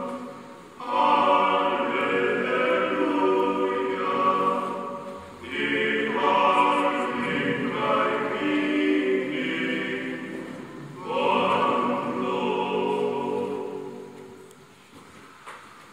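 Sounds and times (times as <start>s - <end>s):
group singing a carol: 0.0s - 14.7s.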